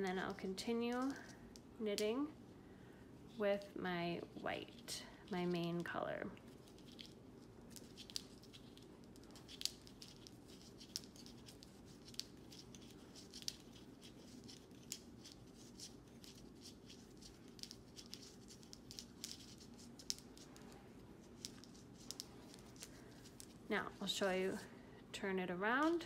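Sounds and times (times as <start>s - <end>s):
room hum: 0.0s - 26.0s.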